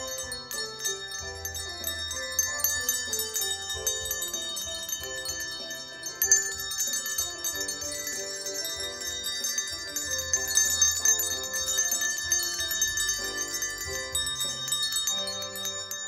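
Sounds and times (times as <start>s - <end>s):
handbells jangling: 0.0s - 16.0s.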